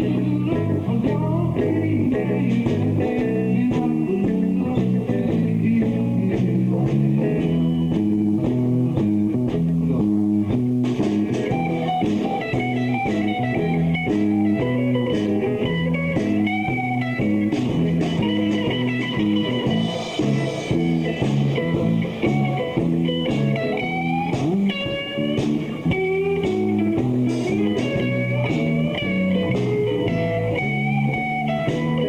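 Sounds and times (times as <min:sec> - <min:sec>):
bass line: 0:00.0 - 0:32.0
drum beat: 0:00.0 - 0:32.0
electric guitar lines: 0:00.0 - 0:32.0.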